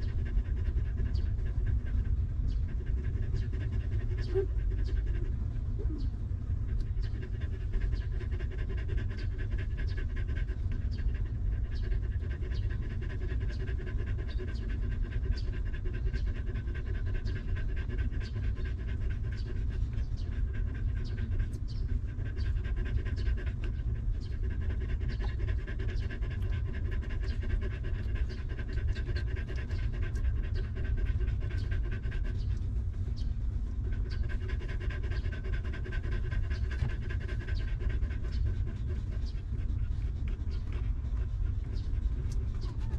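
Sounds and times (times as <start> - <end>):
dog panting: 0.0 - 42.9
steady low rumble: 0.0 - 42.9.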